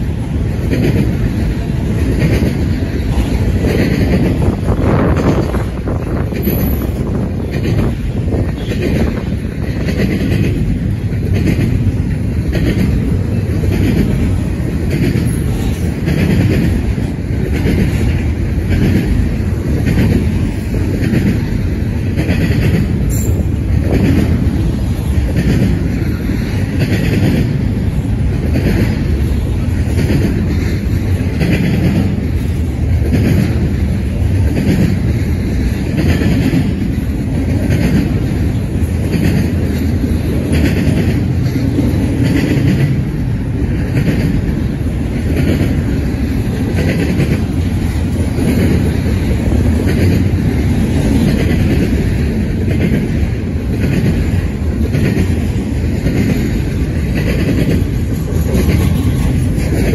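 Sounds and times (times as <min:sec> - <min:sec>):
freight train wheels rumbling: 0:00.0 - 0:59.9
wheels clattering over rail joints: 0:00.0 - 0:59.9.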